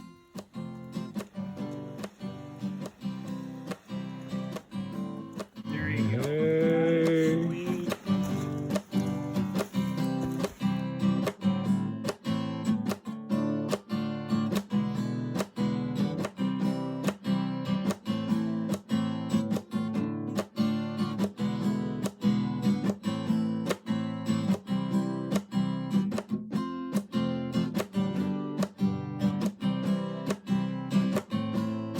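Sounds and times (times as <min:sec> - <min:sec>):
acoustic guitar strumming: 0:00.0 - 0:31.9.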